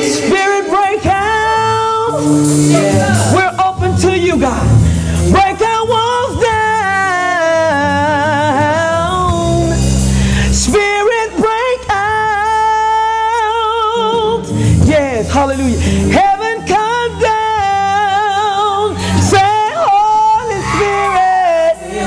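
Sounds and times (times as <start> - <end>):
woman singing gospel song: 0.0 - 9.8, 10.5 - 22.0
instrumental backing with bass: 0.0 - 22.0.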